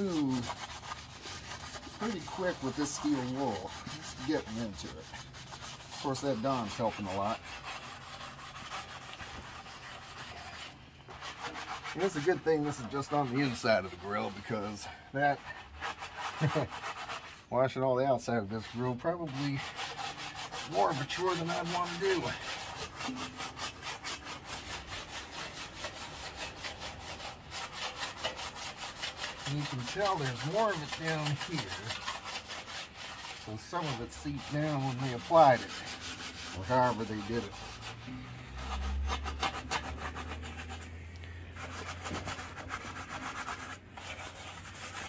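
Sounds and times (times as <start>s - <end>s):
steel wool scrubbing metal: 0.0s - 45.0s.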